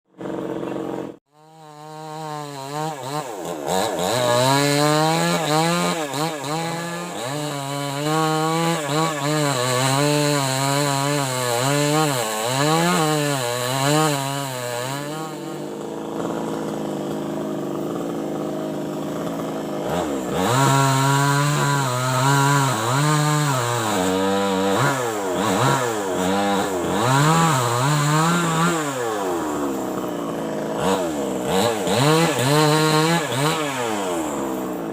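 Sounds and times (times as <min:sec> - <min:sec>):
chainsaw engine revving: 0:00.1 - 0:34.9.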